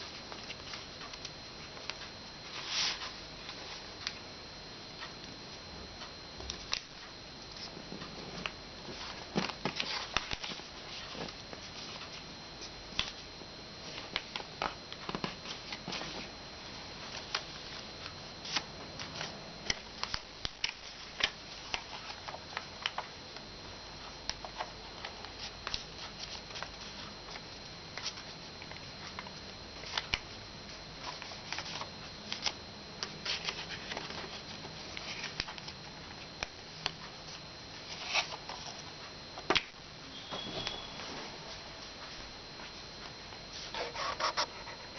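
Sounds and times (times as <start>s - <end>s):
faint high whine: 0.0s - 44.9s.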